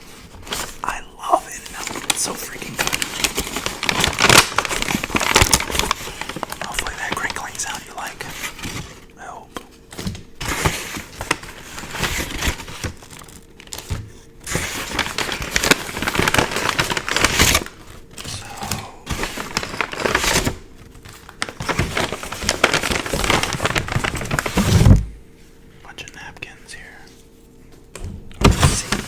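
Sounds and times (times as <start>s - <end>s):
paper packaging crinkling: 0.0s - 25.0s, 28.4s - 29.0s.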